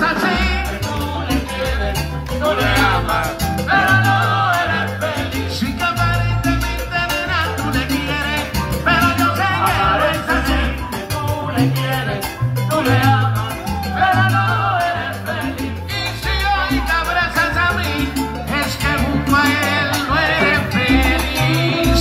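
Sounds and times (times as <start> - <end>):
people singing: 0.0 - 22.0
percussion: 0.0 - 22.0
piano: 0.0 - 22.0
salsa band playing: 0.0 - 22.0
upright bass: 0.0 - 22.0.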